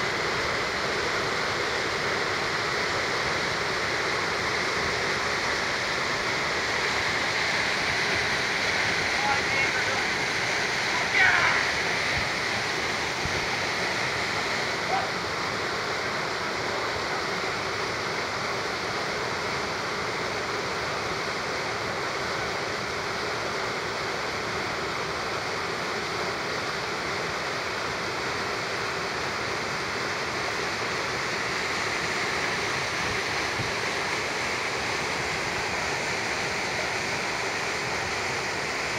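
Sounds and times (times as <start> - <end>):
whitewater rushing through rapids: 0.0 - 38.9.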